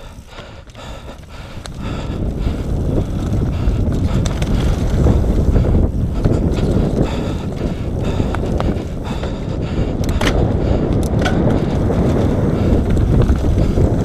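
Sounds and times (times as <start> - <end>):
bike clicks and rattles: 0.0 - 14.0
bike tyres rumbling on dirt: 0.0 - 14.0
wind on microphone: 0.0 - 14.0.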